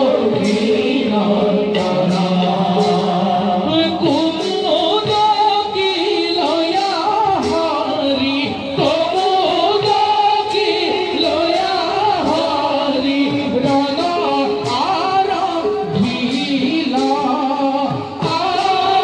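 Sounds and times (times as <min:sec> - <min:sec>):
instrumental accompaniment: 0:00.0 - 0:19.0
person singing ornamented melody: 0:00.0 - 0:19.0.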